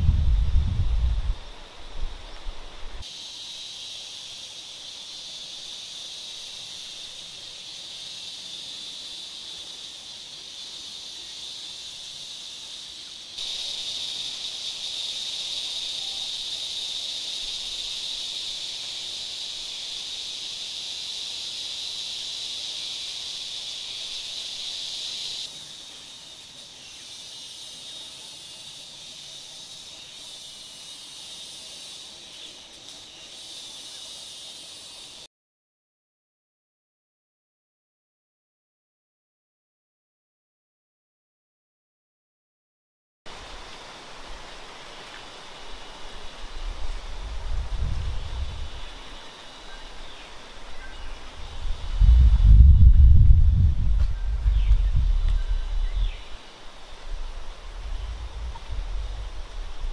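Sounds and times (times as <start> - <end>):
insects droning: 0.0 - 35.3, 43.3 - 59.9.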